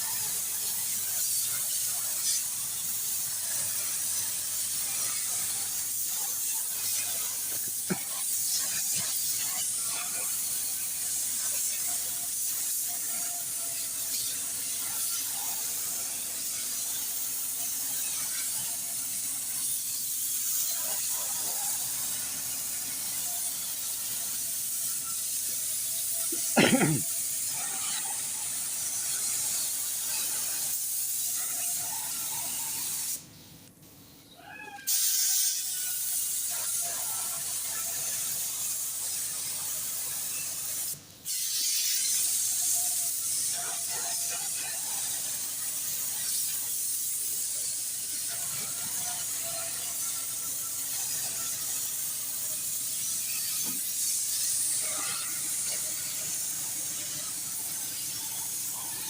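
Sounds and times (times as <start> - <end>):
compressed air hissing: 0.0 - 33.2, 34.9 - 59.0.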